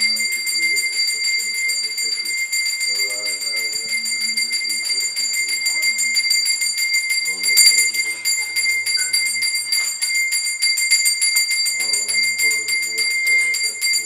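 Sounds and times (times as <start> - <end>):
hand bell rung rapidly: 0.0 - 14.0.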